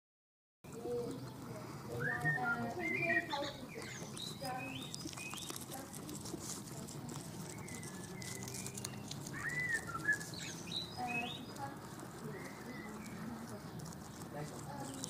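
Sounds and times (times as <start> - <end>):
birds chirping: 0.7 - 15.0.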